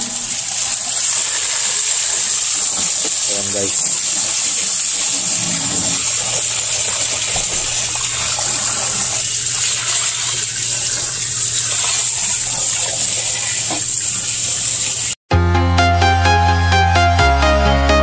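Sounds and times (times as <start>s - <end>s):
hose water spraying on metal fins: 0.0s - 15.2s.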